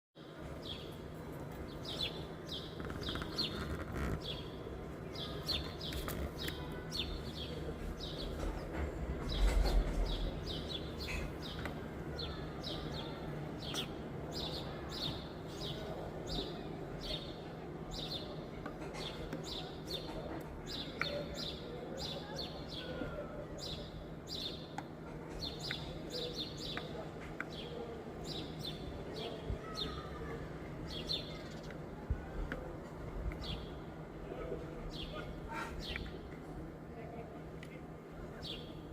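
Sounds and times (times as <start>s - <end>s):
small birds chirping: 0.2s - 38.9s.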